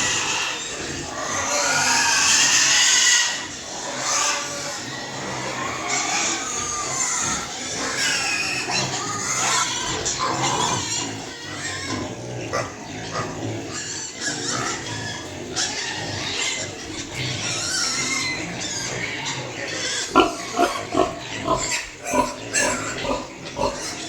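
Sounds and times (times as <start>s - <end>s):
piglets squealing: 0.0s - 24.0s.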